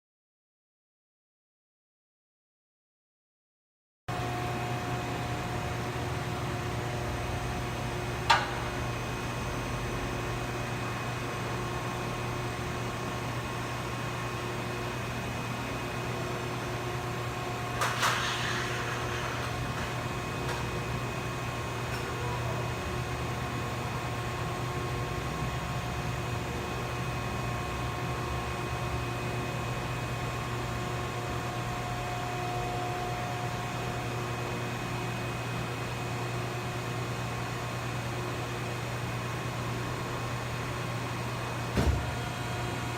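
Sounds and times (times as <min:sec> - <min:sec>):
electric motor and hydraulic pump humming: 0:04.2 - 0:42.9.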